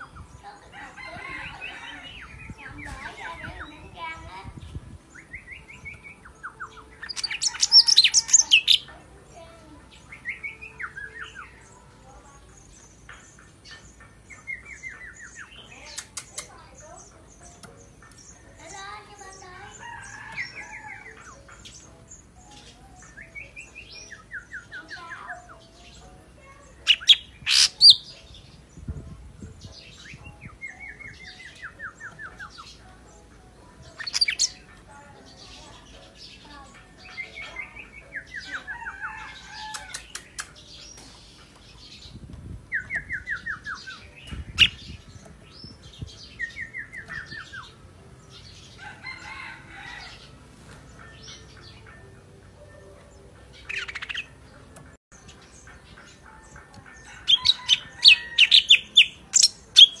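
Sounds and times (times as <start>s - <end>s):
bird singing trills and chirps: 0.0s - 50.3s, 50.9s - 60.0s.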